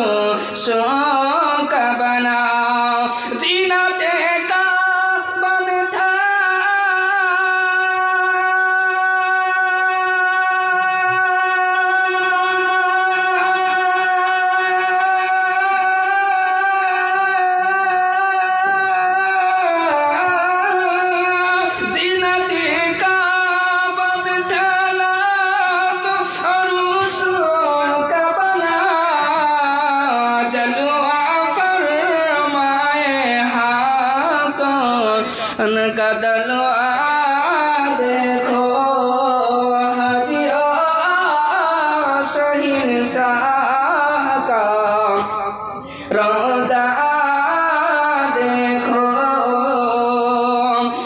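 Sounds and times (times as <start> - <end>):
man singing devotional song: 0.0 - 51.0.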